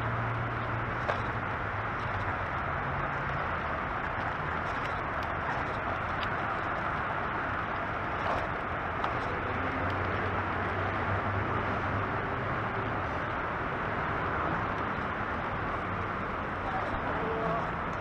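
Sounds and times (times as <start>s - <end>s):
scooter wheels rolling on pavement: 0.0s - 18.0s.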